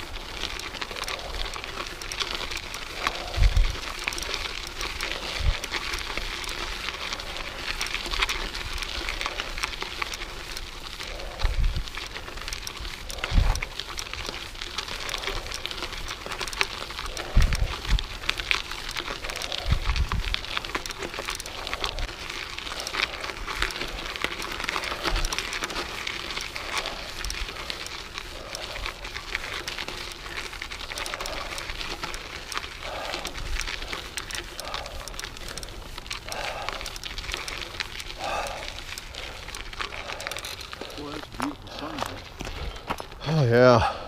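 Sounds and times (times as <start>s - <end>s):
bike tyres crunching on gravel: 0.0s - 44.0s.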